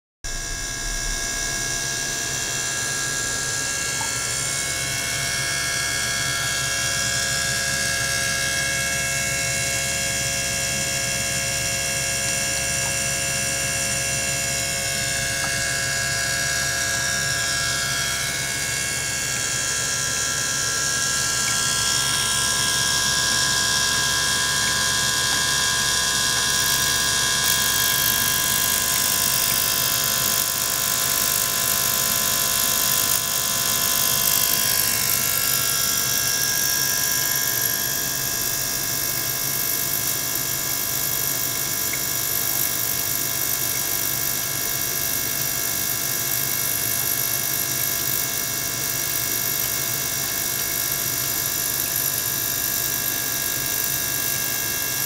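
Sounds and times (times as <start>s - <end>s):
small water pump whirring: 0.2s - 55.0s.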